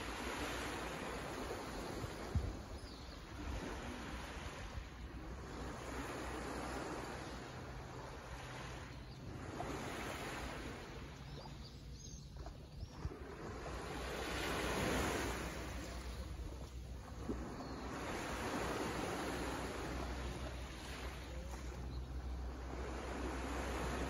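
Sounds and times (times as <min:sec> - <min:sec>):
small waves lapping on beach: 0:00.0 - 0:24.0.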